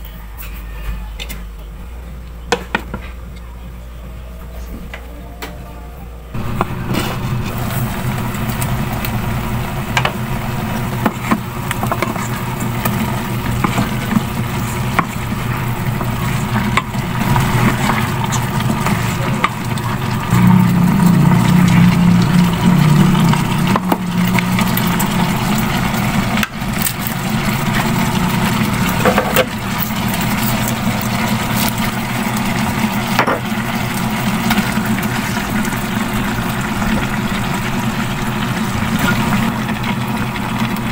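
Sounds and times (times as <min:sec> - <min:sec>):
electric cooker hum: 0:00.0 - 0:40.9
food bubbling in a pot: 0:06.3 - 0:40.9.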